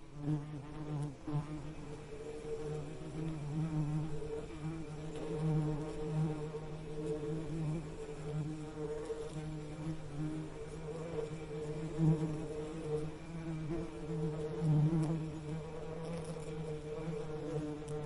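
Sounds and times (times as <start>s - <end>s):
bees buzzing: 0.1s - 18.0s.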